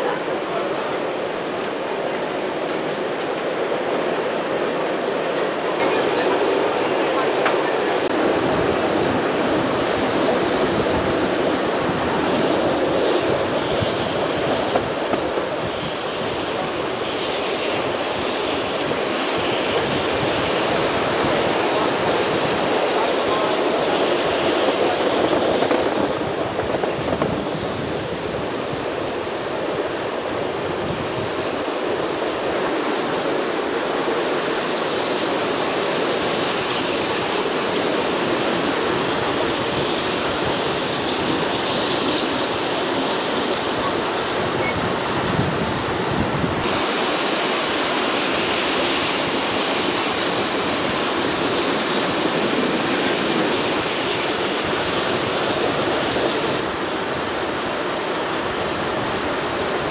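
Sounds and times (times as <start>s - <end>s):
train carriages running on rails: 0.0s - 59.9s
wind across microphone: 1.2s - 59.9s.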